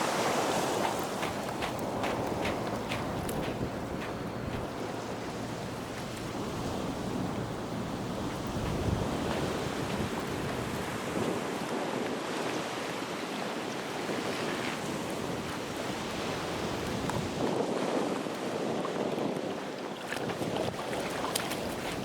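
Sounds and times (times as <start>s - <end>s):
wind buffeting microphone: 0.0s - 12.6s, 14.1s - 22.0s
surf washing on sand: 0.0s - 22.0s.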